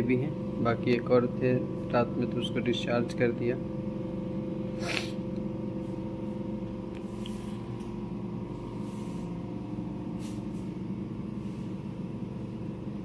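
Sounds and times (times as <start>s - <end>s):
hospital equipment hum: 0.0s - 13.0s.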